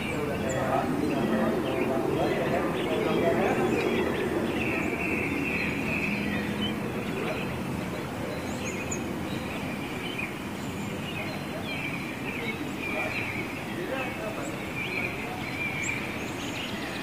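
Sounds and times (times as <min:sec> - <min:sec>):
birds chirping and trilling: 0:00.0 - 0:17.0
outdoor background noise: 0:00.0 - 0:17.0.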